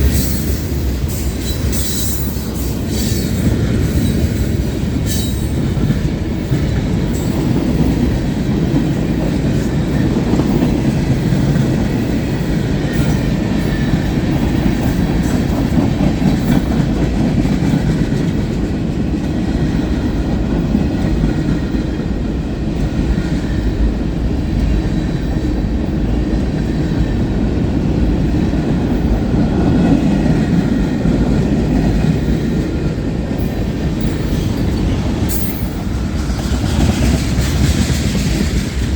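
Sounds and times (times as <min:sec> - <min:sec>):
train wheels rolling on rail: 0:00.0 - 0:38.9.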